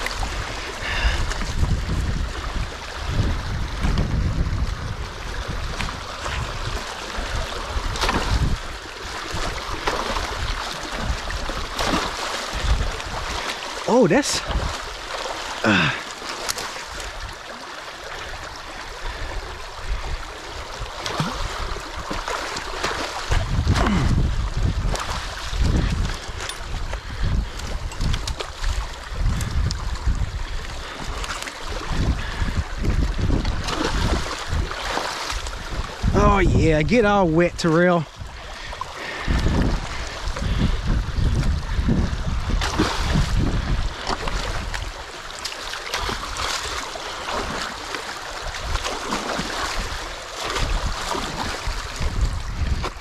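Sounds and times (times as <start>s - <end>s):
wind buffeting microphone: 0.0s - 13.6s, 14.3s - 15.0s, 18.2s - 45.1s, 45.9s - 53.0s
water rushing and gurgling: 0.0s - 53.0s.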